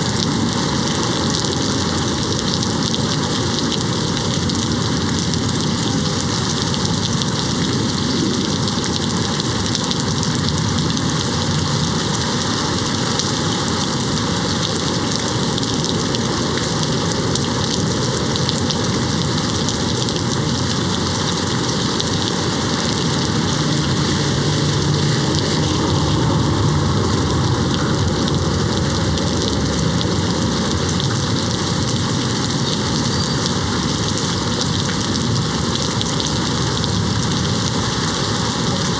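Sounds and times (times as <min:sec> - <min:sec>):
heavy rain pattering on a window: 0:00.0 - 0:38.9.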